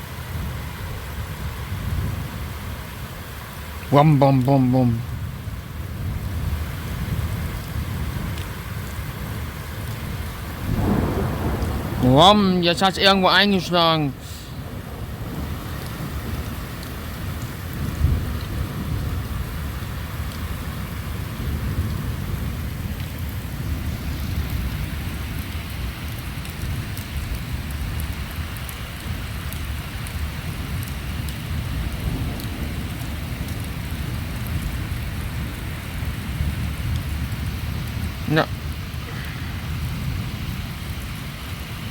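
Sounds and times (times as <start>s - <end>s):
rain falling: 0.0s - 41.9s
thunder rumbling: 5.0s - 41.9s.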